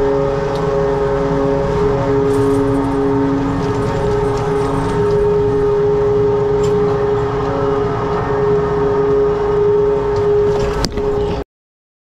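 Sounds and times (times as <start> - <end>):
low rumble: 0.0 - 11.4
machinery whining: 0.0 - 11.4.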